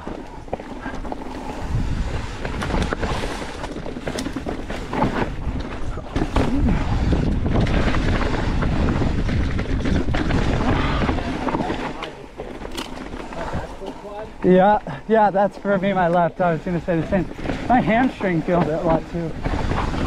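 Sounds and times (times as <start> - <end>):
tyre rumble: 0.0 - 13.8, 16.9 - 20.0
wind buffeting microphone: 0.0 - 14.8, 16.4 - 20.0
bike rattling and knocking: 0.0 - 20.0.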